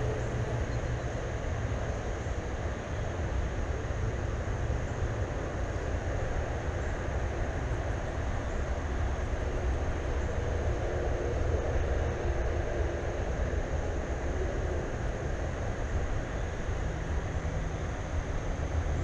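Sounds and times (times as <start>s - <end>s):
faint high-pitched hum: 0.0s - 19.0s
low outdoor rumble: 0.0s - 19.0s.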